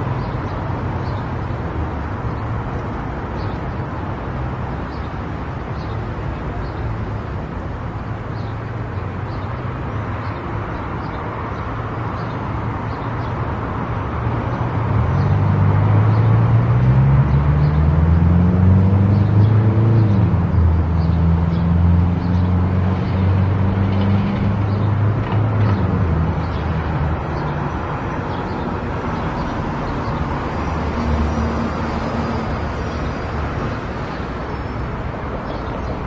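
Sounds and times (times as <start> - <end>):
tyre and road noise: 0.0 - 36.0.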